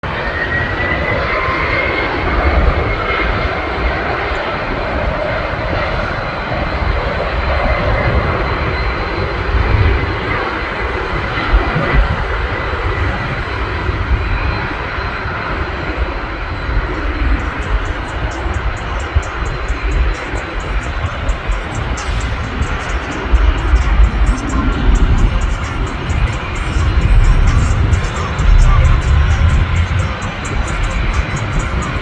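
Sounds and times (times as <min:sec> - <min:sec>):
jet engine roar: 0:00.0 - 0:32.0
thin high whine: 0:00.0 - 0:32.0.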